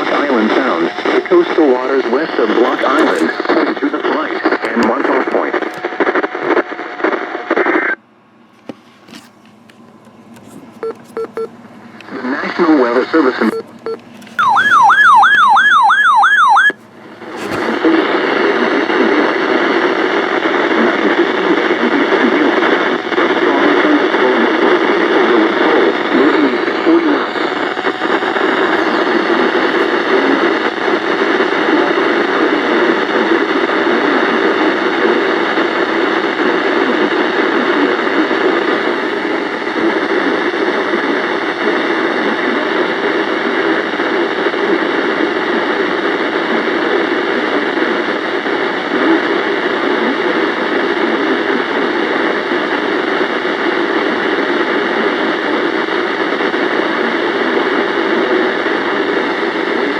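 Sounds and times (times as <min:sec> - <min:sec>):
radio static hiss: 0:00.0 - 0:08.0, 0:08.6 - 0:59.9.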